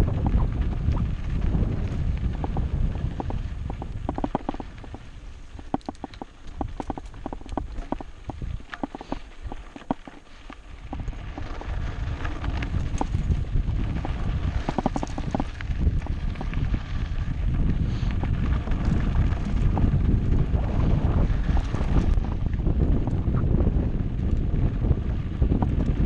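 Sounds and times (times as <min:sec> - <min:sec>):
wind buffeting microphone: 0:00.0 - 0:09.7, 0:10.6 - 0:26.0
mountain bike rattling: 0:00.0 - 0:26.0.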